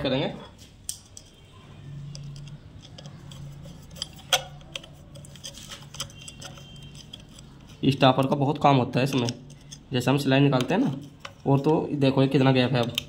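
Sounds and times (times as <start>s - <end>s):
screwdriver clicking and scraping metal: 0.8s - 13.0s.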